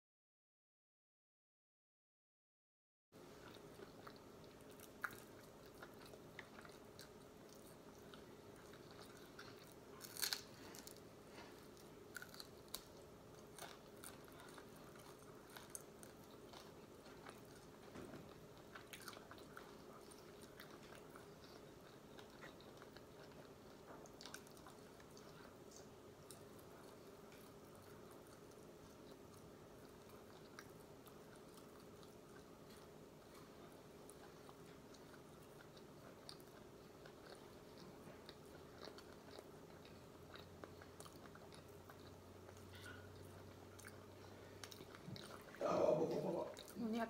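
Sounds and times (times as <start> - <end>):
faint steady hum: 3.2 - 47.0
soft chewing and crunching: 3.2 - 47.0.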